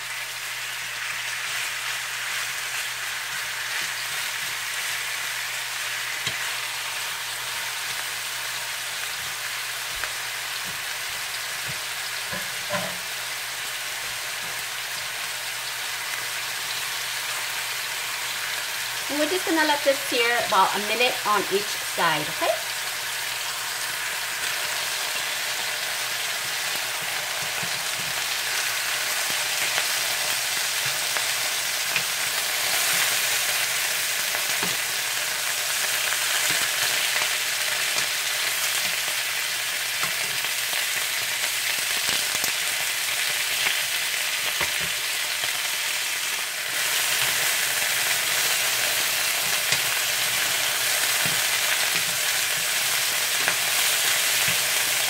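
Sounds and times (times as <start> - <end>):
meat sizzling in a frying pan: 0.0 - 55.0.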